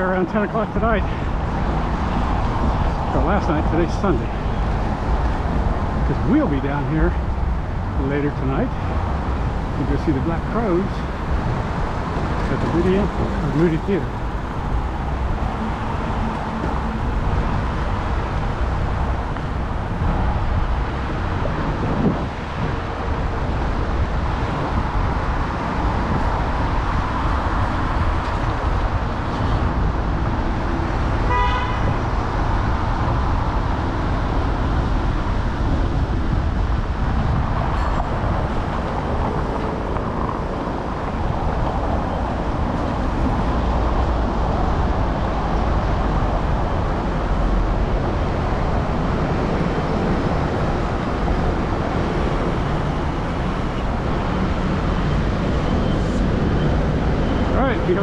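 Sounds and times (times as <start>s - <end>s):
passing city traffic: 0.0s - 58.0s
wind on microphone: 1.0s - 58.0s.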